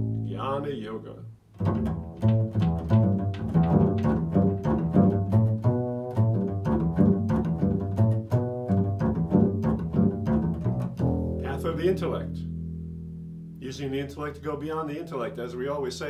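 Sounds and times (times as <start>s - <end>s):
double bass plucked: 0.0s - 16.0s.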